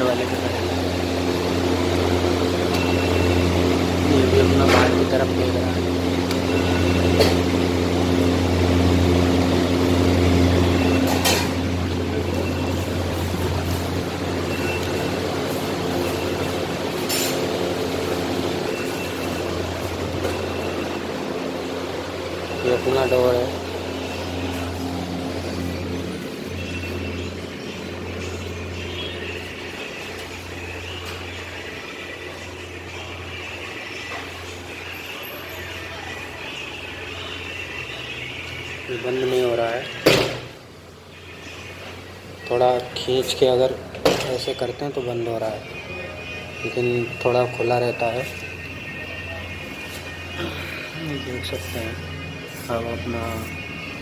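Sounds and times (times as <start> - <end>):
exhaust fans humming: 0.0 - 54.0.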